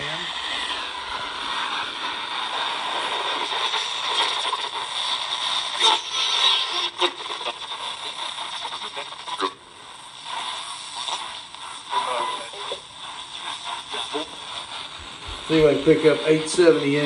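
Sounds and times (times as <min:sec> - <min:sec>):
radio static and hiss: 0:00.0 - 0:17.0
radio station fragments and voices: 0:00.0 - 0:17.0.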